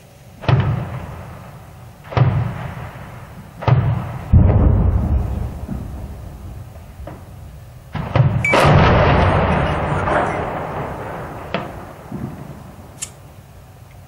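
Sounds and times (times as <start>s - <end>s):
explosion boom with rolling rumble: 0.4s - 13.0s
sharp crack: 0.4s - 13.4s.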